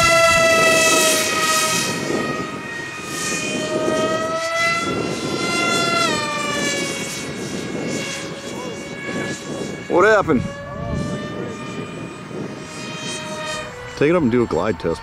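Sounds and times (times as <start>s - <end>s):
electric motors and propellers whining: 0.0s - 15.0s
steady rushing noise: 0.0s - 15.0s.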